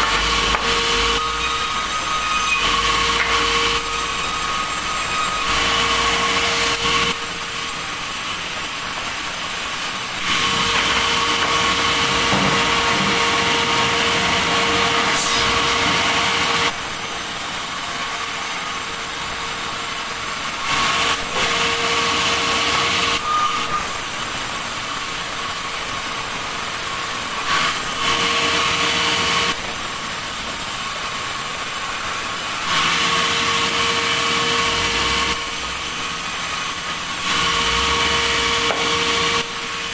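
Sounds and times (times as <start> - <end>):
sawmill saw cutting logs: 0.0 - 25.6, 26.8 - 39.9.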